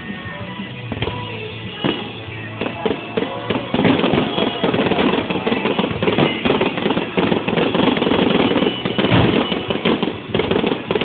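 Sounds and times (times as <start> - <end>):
fireworks popping and crackling: 0.0 - 11.0.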